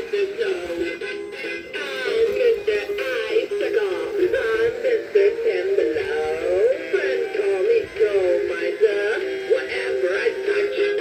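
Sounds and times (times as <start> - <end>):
man singing through small speaker: 0.0 - 11.0.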